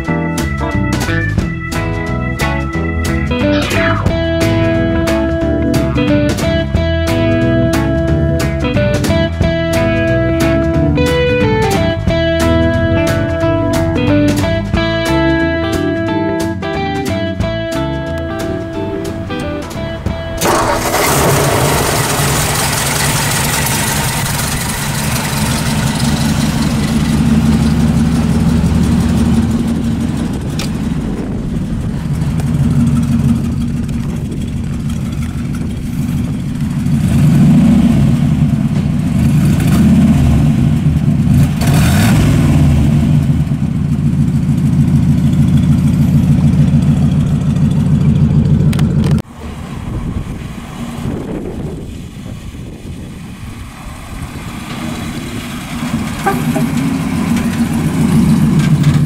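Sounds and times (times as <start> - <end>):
car engine starting and idling: 0.4 - 59.0
engine revving: 0.8 - 59.0.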